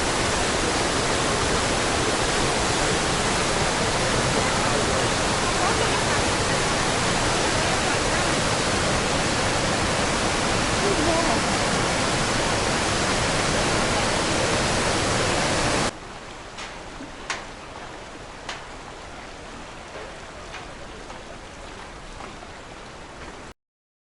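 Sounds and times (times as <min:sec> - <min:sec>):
waterfall rushing: 0:00.0 - 0:23.2.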